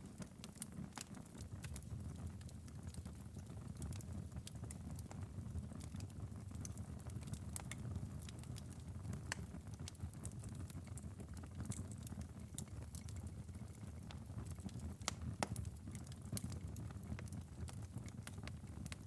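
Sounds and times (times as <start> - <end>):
low rumble of burning: 0.0 - 19.0
wood fire pops and snaps: 0.0 - 19.0.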